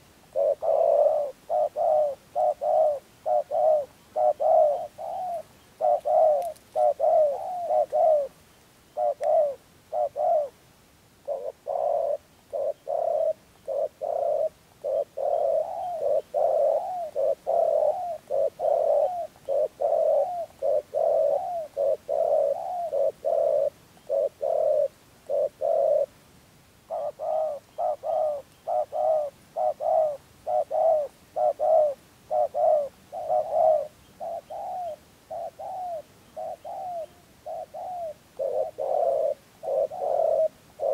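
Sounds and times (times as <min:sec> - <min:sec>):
dove cooing: 0:00.0 - 0:10.6, 0:11.2 - 0:26.2, 0:26.8 - 0:40.9.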